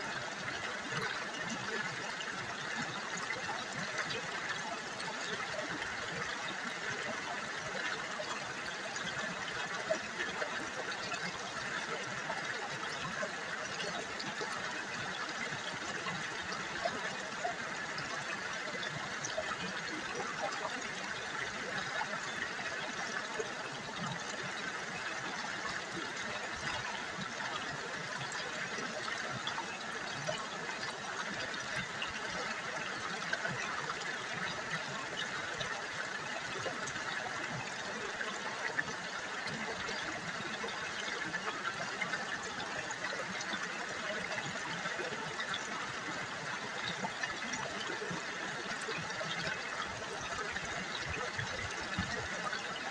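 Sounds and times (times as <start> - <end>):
river water babbling over stones: 0.0 - 52.9.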